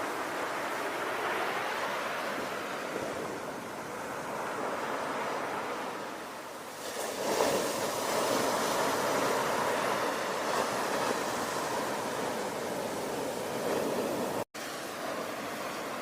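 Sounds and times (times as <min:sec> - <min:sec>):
wave breaking: 0:00.0 - 0:16.0
waves washing: 0:00.0 - 0:16.0.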